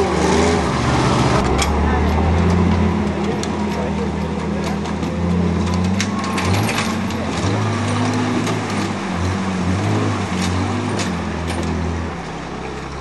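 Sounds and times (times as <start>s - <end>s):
truck engine running under load: 0.0s - 13.0s.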